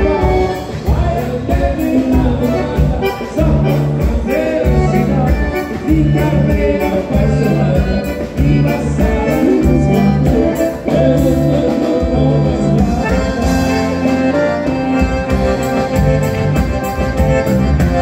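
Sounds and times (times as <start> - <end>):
accordion dance band music: 0.0 - 18.0.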